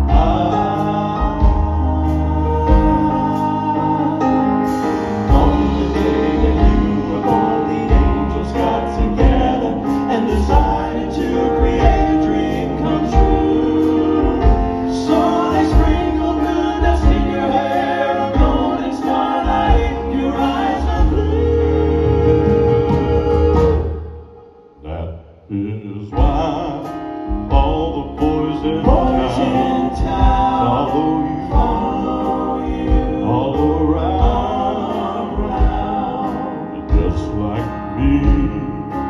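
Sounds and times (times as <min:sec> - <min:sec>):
piano and band accompaniment: 0:00.0 - 0:24.9, 0:25.5 - 0:39.0
male vocal quartet singing gospel: 0:00.0 - 0:39.0.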